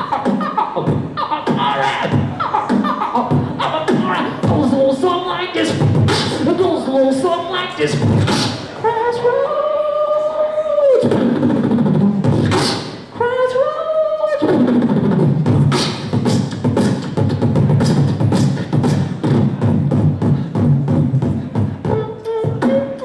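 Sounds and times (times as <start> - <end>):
person beatboxing: 0.0 - 23.0.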